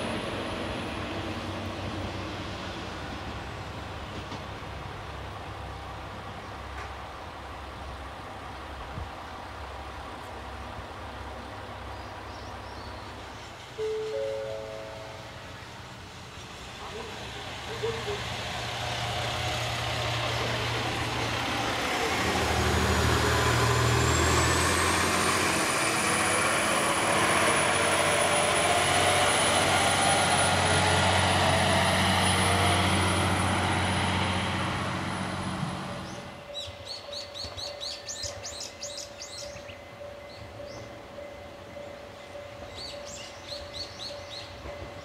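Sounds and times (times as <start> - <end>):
diesel railcar engine drone: 0.0 - 45.0
rail noise: 0.0 - 45.0.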